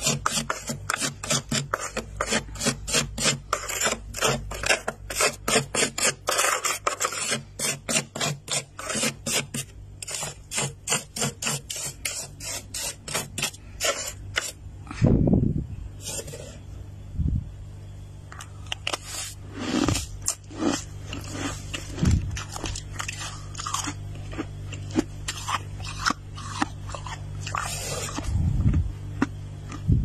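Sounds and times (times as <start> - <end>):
fingers scraping freezer frost: 0.0 - 14.6, 16.0 - 16.7, 18.6 - 28.4.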